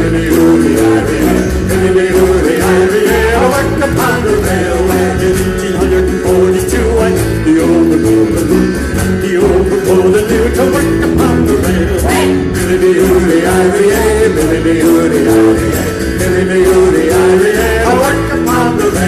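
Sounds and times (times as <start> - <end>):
folk band playing: 0.0 - 19.0.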